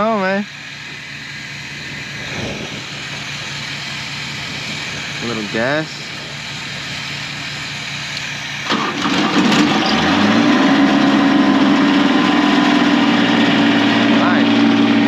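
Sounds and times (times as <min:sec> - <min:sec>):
gas engine starting and running: 0:00.0 - 0:15.0.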